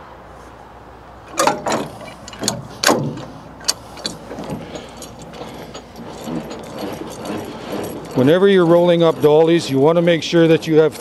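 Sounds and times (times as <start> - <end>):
metal crank clanking and clicking: 1.3 - 11.0.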